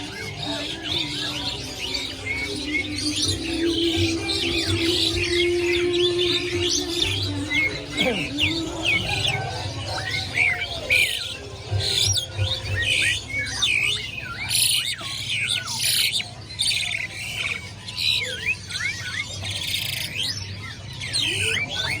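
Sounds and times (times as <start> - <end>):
birds whistling and squawking: 0.0 - 22.0.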